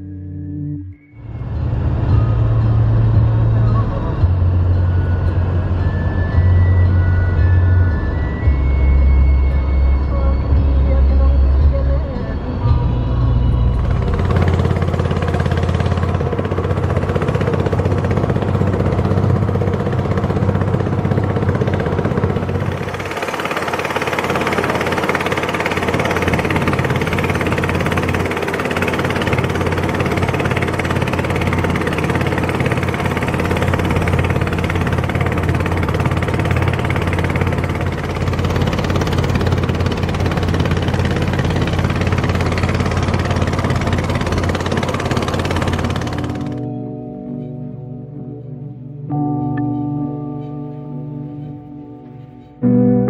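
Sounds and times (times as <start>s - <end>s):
motorboat engine running: 0.0s - 48.4s.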